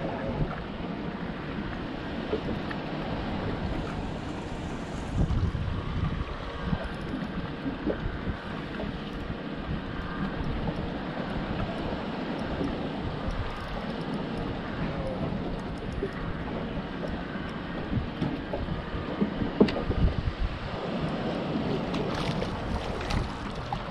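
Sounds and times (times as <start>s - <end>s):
water lapping against boat: 0.0s - 23.9s
wind gusting on microphone: 0.0s - 23.9s.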